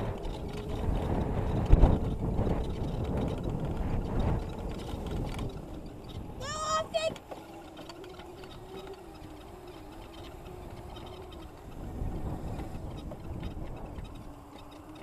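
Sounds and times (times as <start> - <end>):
electric motorbike motor whine: 0.0 - 15.0.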